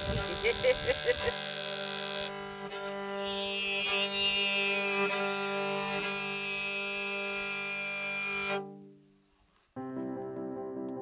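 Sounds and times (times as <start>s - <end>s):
bowed horsehead fiddle melody: 0.0s - 9.0s.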